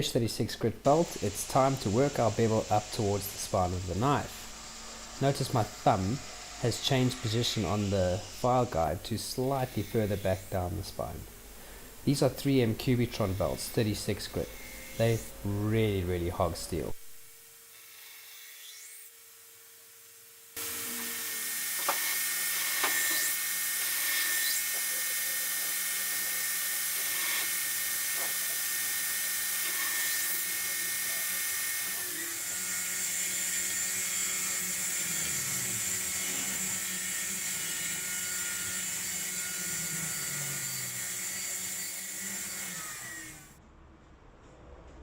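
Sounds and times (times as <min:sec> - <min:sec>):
belt grinder grinding steel: 0:00.9 - 0:11.1, 0:12.0 - 0:15.8, 0:20.6 - 0:43.6.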